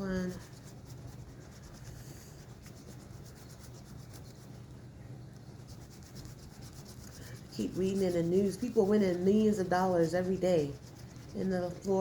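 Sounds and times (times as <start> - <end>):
faint steady low hum: 0.0 - 12.0
scraping lottery ticket coating: 0.0 - 12.0.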